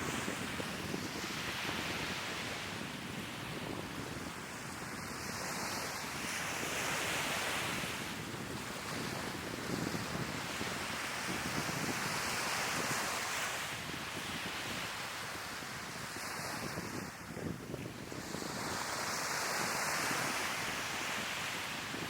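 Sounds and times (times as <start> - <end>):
sea waves washing onto shore: 0.0 - 22.0
wind rumbling on microphone: 0.0 - 22.0.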